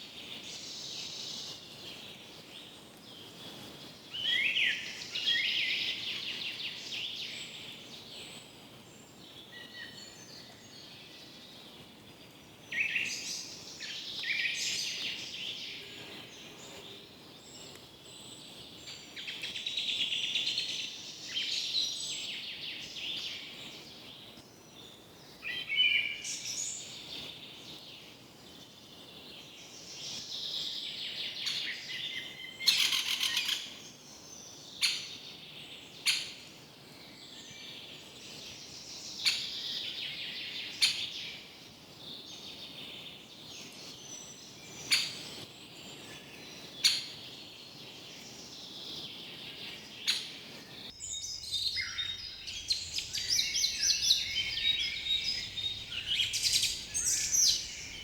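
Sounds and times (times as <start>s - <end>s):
faint steady hiss: 0.0s - 58.0s
forest birds singing: 0.0s - 58.0s.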